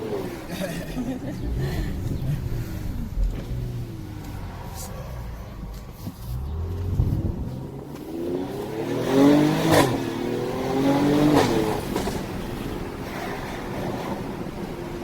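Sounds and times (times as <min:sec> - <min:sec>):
car engine revving up: 0:00.0 - 0:12.5.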